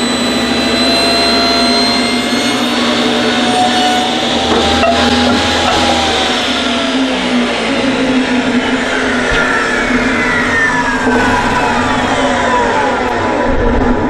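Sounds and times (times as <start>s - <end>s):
table saw ripping wood: 0.0s - 13.5s.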